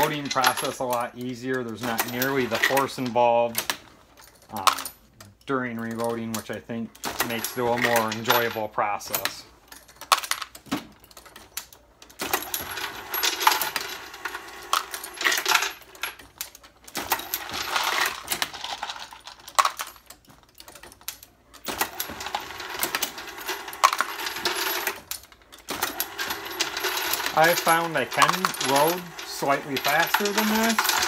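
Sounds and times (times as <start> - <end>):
brass cases clattering: 0.0 - 5.1, 5.9 - 31.0.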